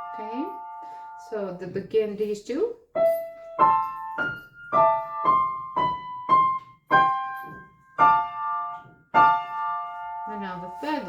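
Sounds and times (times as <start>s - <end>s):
slow piano notes: 0.0s - 1.7s, 2.9s - 11.0s.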